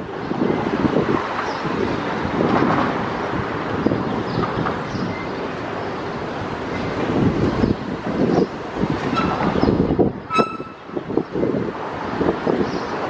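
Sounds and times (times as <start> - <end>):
airport noise rush: 0.0 - 13.0
wind buffeting microphone: 0.0 - 13.0.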